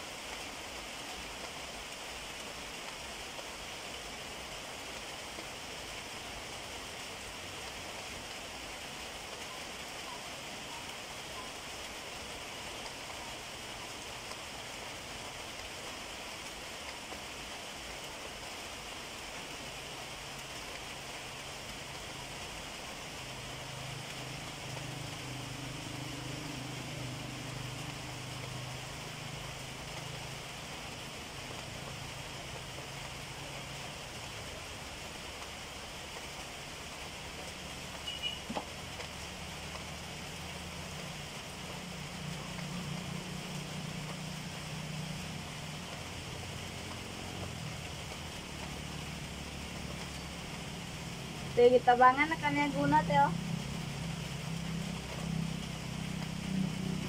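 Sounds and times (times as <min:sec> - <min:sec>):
rain on metal roof: 0:00.0 - 0:57.0.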